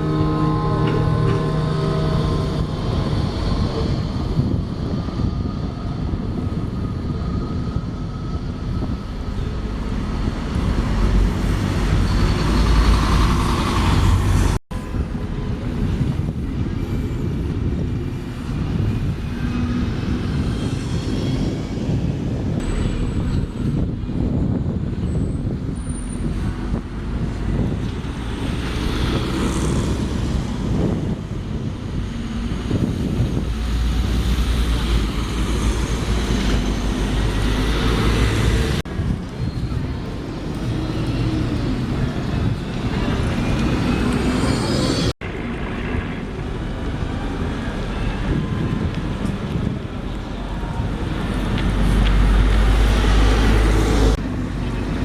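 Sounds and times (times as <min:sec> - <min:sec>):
low rumble of buses: 0:00.0 - 0:55.0
traffic noise: 0:00.0 - 0:55.0.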